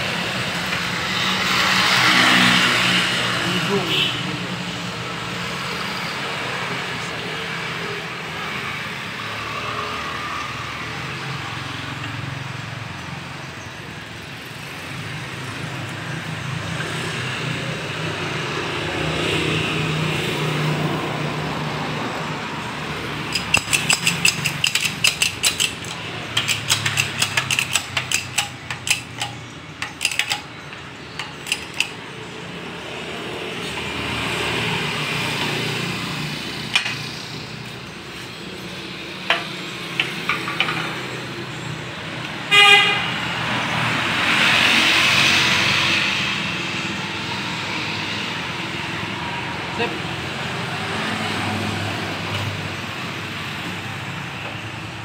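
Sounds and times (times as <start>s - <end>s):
passing traffic hum: 0.0s - 55.0s.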